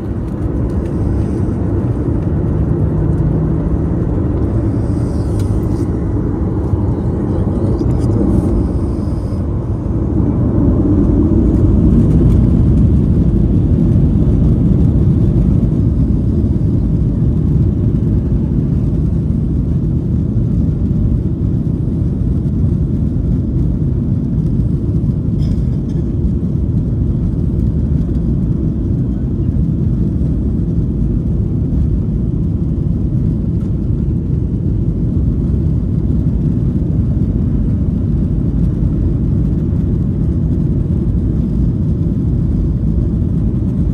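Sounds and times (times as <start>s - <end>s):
jet engines and runway rumble: 0.0s - 43.9s.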